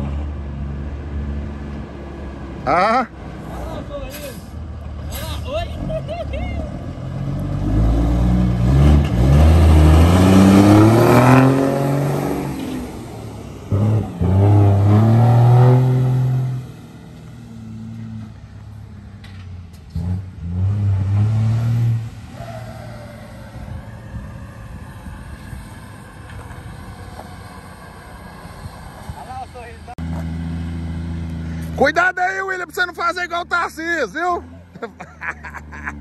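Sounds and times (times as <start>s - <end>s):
diesel truck engine accelerating: 0.0s - 36.0s.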